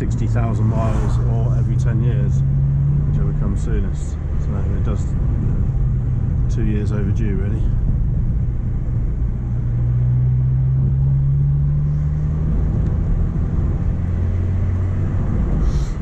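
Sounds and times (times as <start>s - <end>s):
car engine drone: 0.0s - 16.0s
road noise: 0.0s - 16.0s.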